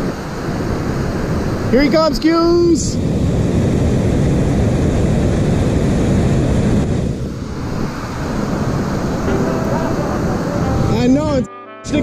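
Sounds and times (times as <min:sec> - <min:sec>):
water roaring over spillway: 0:00.0 - 0:10.9.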